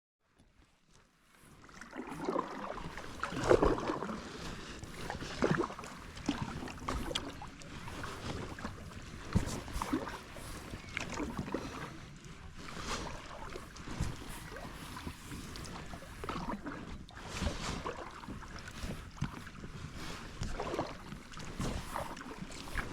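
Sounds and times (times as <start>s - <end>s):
paddle splashing in water: 0.7s - 22.9s.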